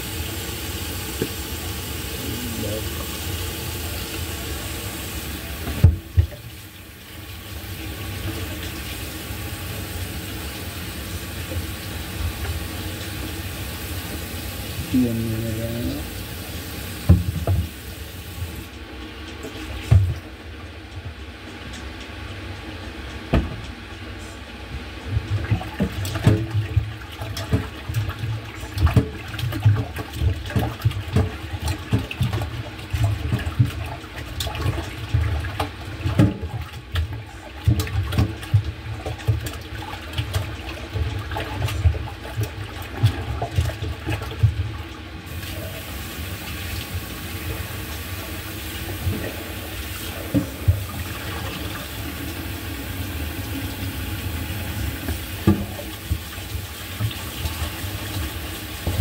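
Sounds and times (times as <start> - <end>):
tap water running into sink: 0.0 - 21.9, 24.7 - 59.0.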